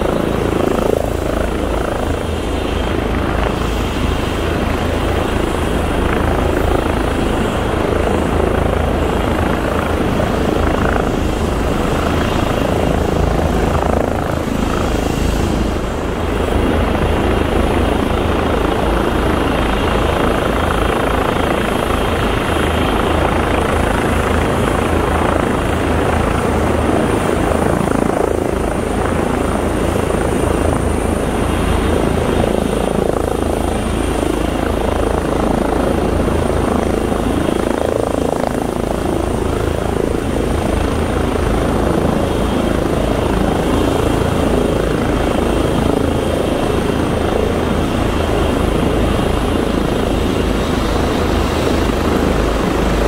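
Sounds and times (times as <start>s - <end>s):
helicopter rotor and turbine noise: 0.0s - 53.0s
high turbine whine: 0.0s - 53.0s.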